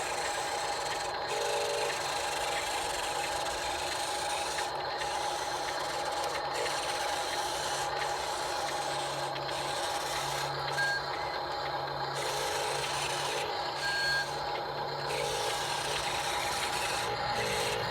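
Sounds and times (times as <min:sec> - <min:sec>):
toy loader motor whine: 0:00.0 - 0:17.9.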